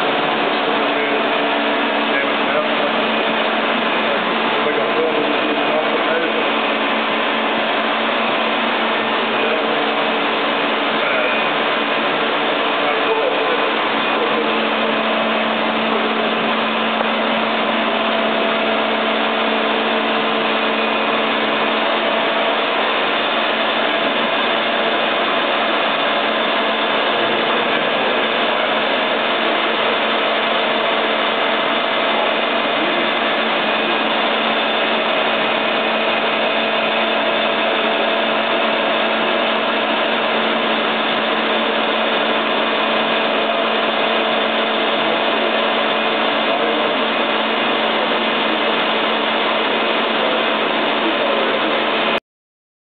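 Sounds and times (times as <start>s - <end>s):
lathe whirring: 0.0s - 52.2s.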